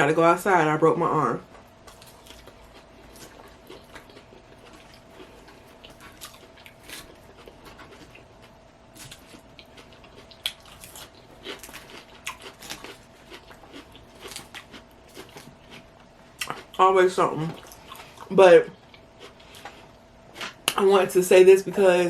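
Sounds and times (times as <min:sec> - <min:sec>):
faint steady hum: 0:00.0 - 0:22.0
person chewing crunchy salad: 0:01.4 - 0:20.8.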